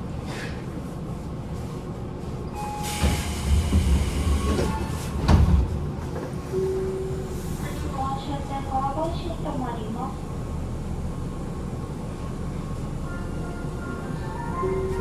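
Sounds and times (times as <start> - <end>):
train air conditioning rumble: 0.0 - 15.0.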